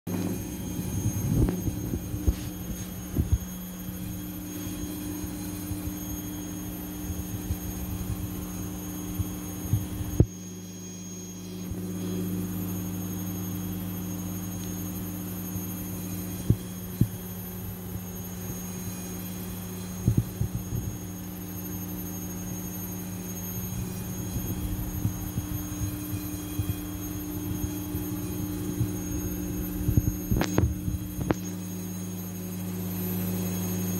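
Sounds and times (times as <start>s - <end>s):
low electrical hum: 0.1s - 33.9s.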